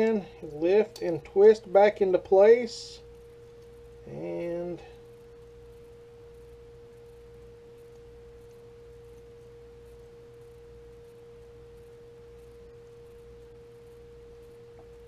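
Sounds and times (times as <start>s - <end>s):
low hum: 0.0s - 15.0s
steady mid-range hum: 0.0s - 15.0s.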